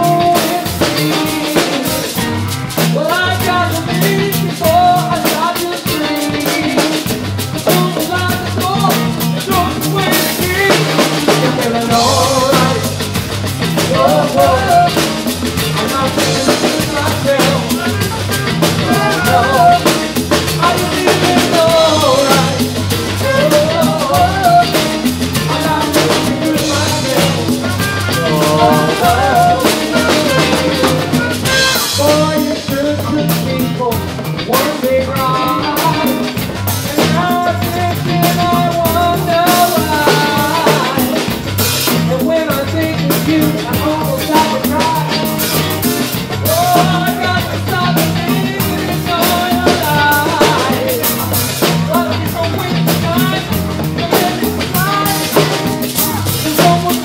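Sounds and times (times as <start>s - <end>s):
live band with drums and horns: 0.0s - 57.0s.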